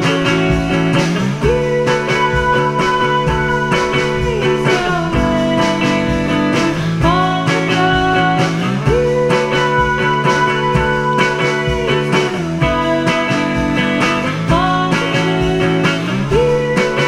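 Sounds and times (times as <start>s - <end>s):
guitar instrumental with sliding notes: 0.0s - 17.0s
steady beat: 0.0s - 17.0s.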